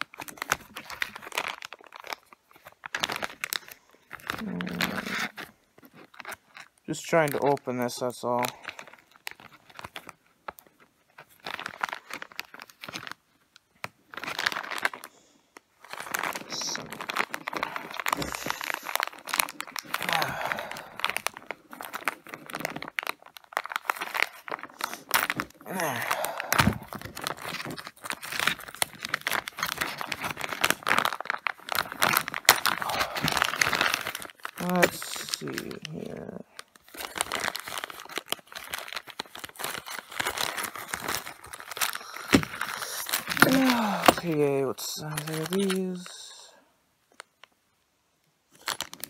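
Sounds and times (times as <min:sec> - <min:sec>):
plastic bag crinkling: 0:00.0 - 0:47.6, 0:48.5 - 0:49.0.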